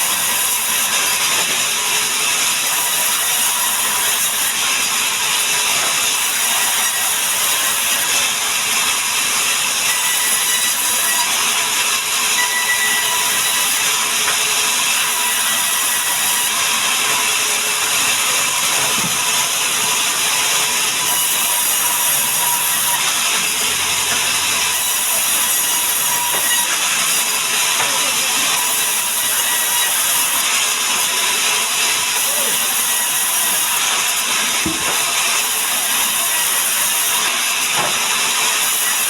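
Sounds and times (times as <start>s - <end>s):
sawmill saw cutting wood: 0.0s - 39.0s.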